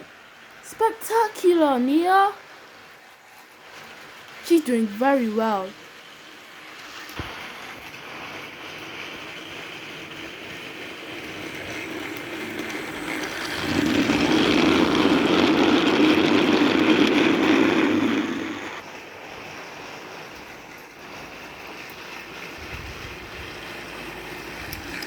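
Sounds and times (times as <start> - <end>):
toy train running on plastic track: 3.6 - 25.0.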